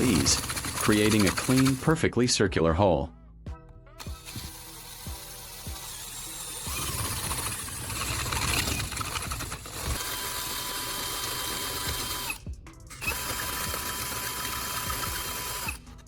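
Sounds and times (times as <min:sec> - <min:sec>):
power drill cutting plastic pipe: 0:00.0 - 0:02.0, 0:04.0 - 0:16.0.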